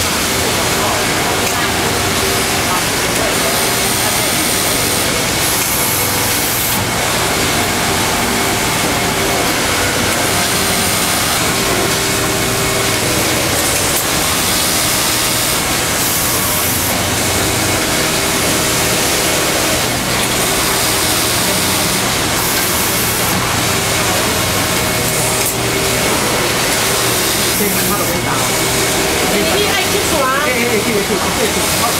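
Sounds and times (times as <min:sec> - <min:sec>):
hum of other machines: 0:00.0 - 0:31.9
industrial sewing machine stitching: 0:00.0 - 0:31.9.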